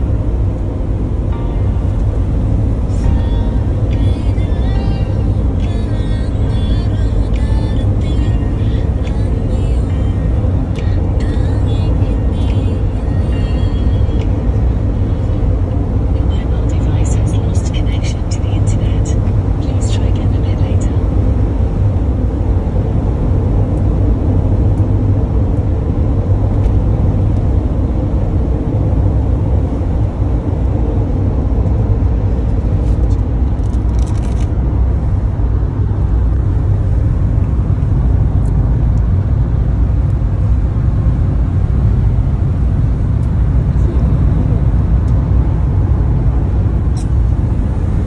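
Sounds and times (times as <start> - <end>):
van road and engine rumble: 0.0 - 48.0.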